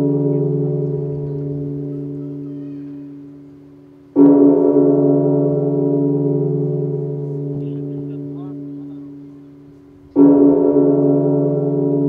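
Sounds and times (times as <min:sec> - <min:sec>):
deep struck tone ringing: 0:00.0 - 0:12.0.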